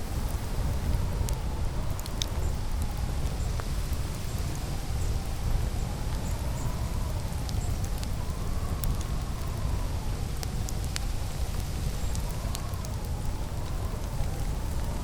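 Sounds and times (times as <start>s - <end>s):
campfire crackling and popping: 0.0s - 15.0s
wind rumble: 0.0s - 15.0s.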